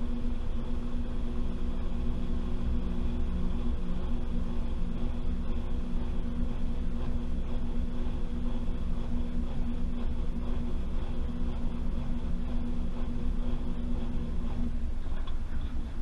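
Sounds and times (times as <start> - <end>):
washing machine motor hum: 0.0 - 16.0.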